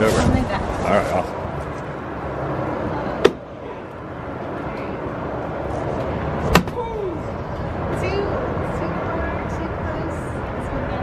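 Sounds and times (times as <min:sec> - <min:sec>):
outdoor background hum: 0:00.0 - 0:11.0.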